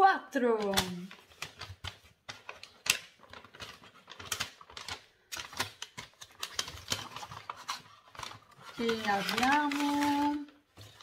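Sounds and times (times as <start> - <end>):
paper bag crinkling: 0.7 - 11.0.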